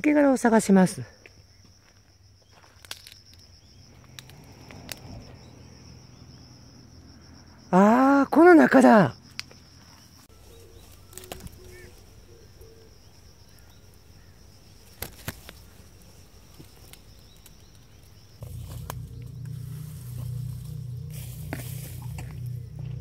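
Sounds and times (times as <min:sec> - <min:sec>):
high-pitched insect call: 0:00.0 - 0:23.0.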